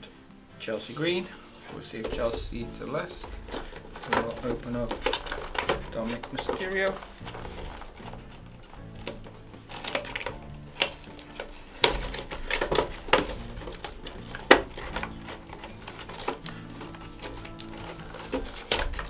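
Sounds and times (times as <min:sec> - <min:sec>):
packaging clicks and rustles: 0:00.0 - 0:19.0
sharp knocks: 0:02.0 - 0:19.0.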